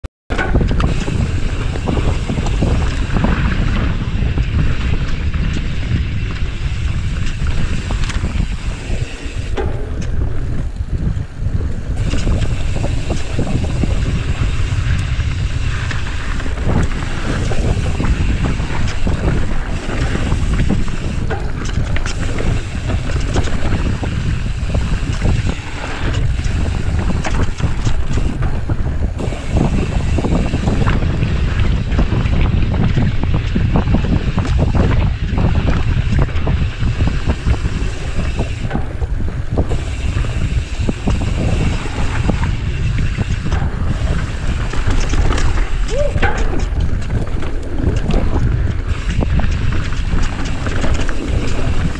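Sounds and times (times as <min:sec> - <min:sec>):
bike knocks and rattles: 0:00.3 - 0:51.9
bike tyres rumbling on dirt: 0:00.3 - 0:51.9
wind buffeting microphone: 0:00.3 - 0:51.9.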